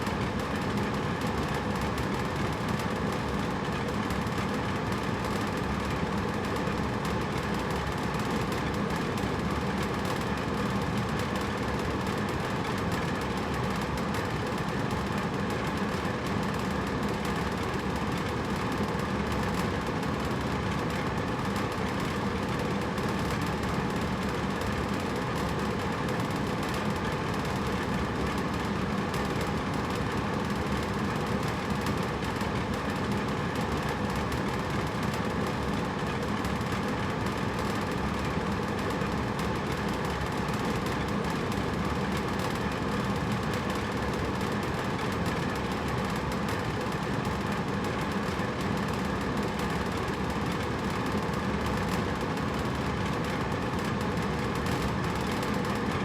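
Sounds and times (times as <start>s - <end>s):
air conditioner rush of air: 0.0s - 56.0s.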